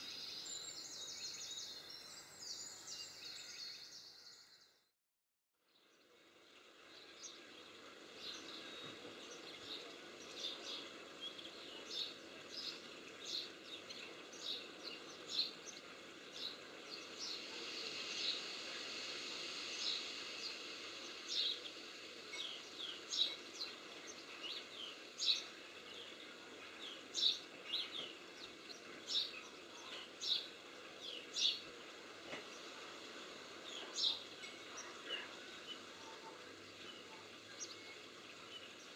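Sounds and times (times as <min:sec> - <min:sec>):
background hiss: 0:00.0 - 0:04.6, 0:05.7 - 0:38.9
finches chirping and twittering: 0:06.9 - 0:38.9.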